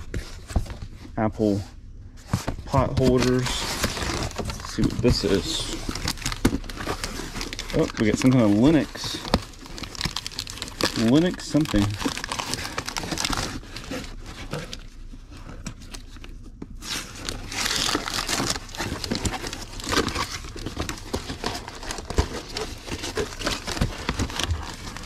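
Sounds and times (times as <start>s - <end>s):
cardboard rustling: 0.0s - 25.0s
packing paper crinkling: 2.7s - 25.0s.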